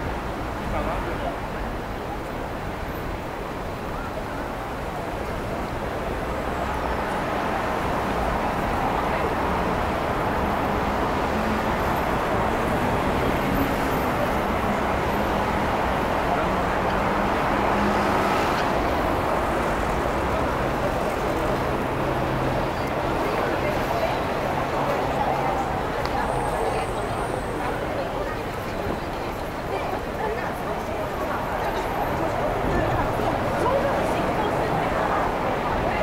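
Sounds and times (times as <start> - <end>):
road traffic: 0.0 - 36.0.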